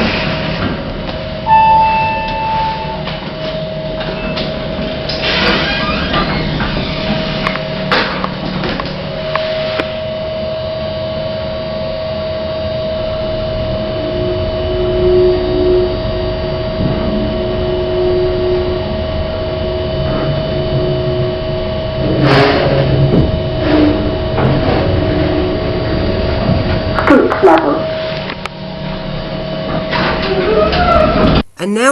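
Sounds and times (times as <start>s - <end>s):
lift hum and whine: 0.0s - 31.8s.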